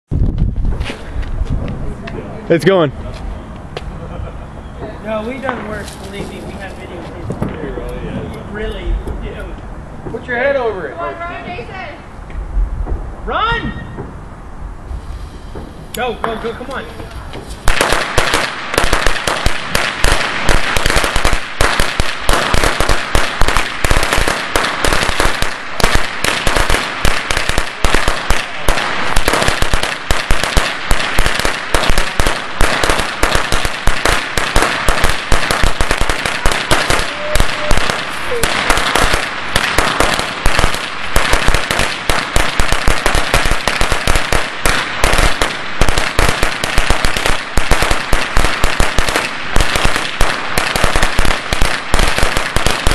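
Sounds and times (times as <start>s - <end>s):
firecrackers crackling: 5.0s - 12.1s, 14.9s - 52.9s.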